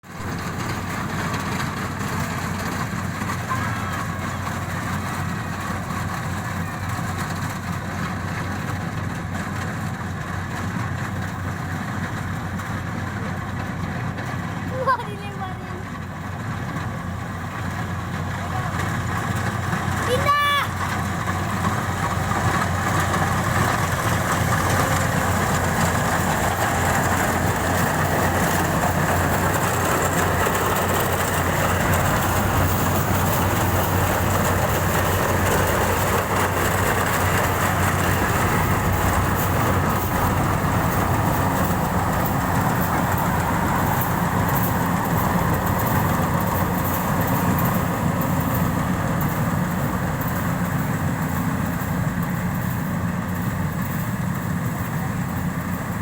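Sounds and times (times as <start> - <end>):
harvesting machine engine running: 0.0 - 56.0.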